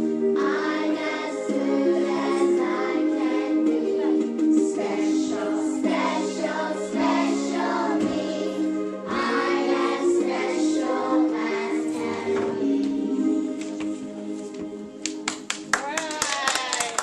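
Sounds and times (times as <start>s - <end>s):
held instrumental notes: 0.0s - 15.4s
young children singing: 0.4s - 14.3s.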